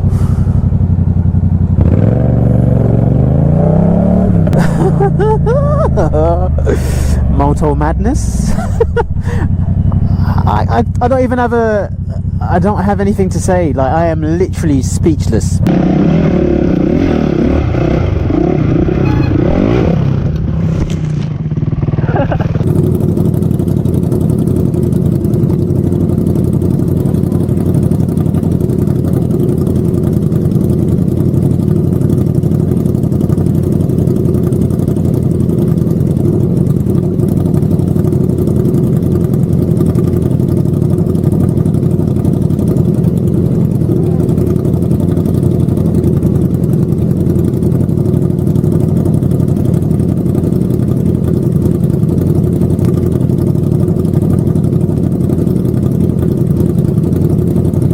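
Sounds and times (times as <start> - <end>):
vehicle engine humming: 0.0 - 57.9.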